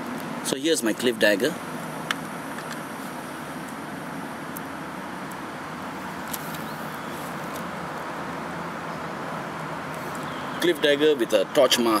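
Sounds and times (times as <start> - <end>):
steady hiss and rumble: 0.0 - 12.0.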